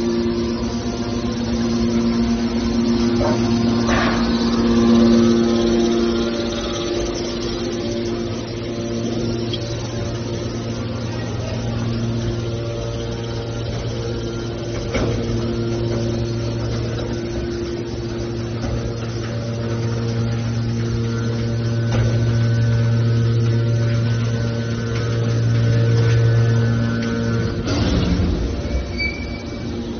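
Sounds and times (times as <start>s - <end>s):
hydraulic baler humming: 0.0s - 29.9s.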